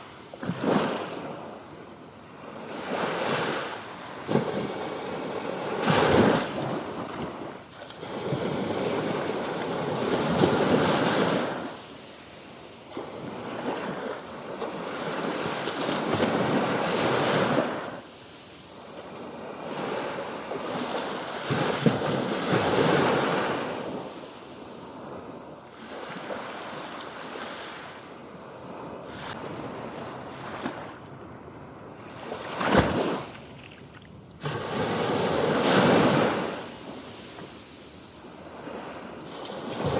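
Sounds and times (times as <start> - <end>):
sea waves breaking on beach: 0.0 - 31.1, 31.8 - 39.9.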